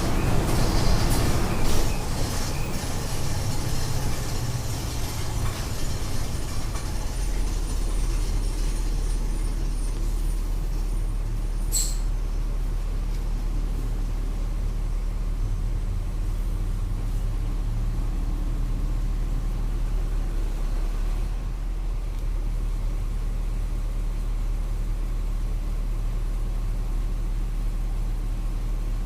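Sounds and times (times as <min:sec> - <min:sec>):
bus engine droning: 0:00.0 - 0:29.0.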